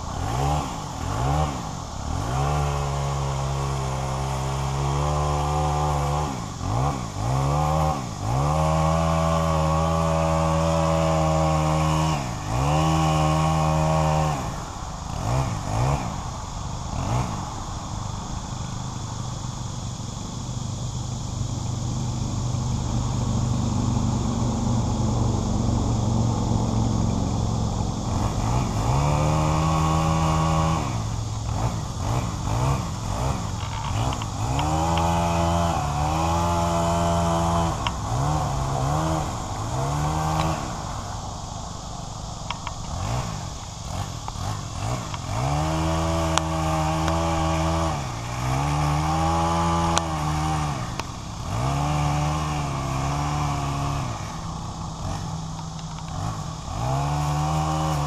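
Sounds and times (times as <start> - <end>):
small engine idling and revving: 0.0 - 58.0.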